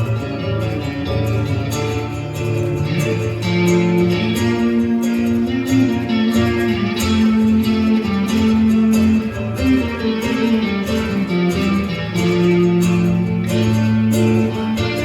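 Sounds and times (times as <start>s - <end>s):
live band guitar melody: 0.0s - 15.0s.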